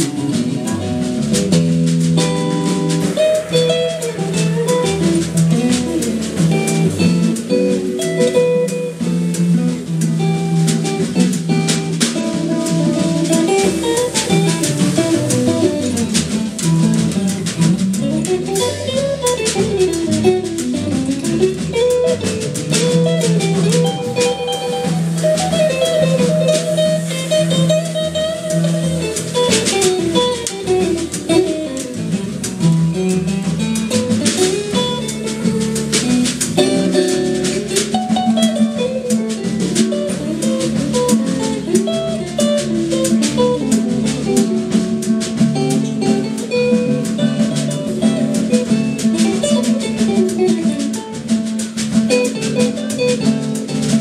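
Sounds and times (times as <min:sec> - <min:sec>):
acoustic guitar melody: 0:00.0 - 0:54.0
drum kit with cymbals: 0:00.0 - 0:54.0
upright double bass: 0:00.0 - 0:54.0.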